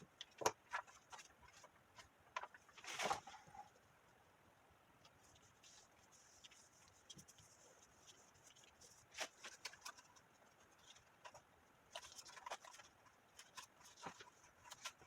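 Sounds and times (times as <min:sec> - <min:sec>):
quiet hiss: 0:00.0 - 0:15.0.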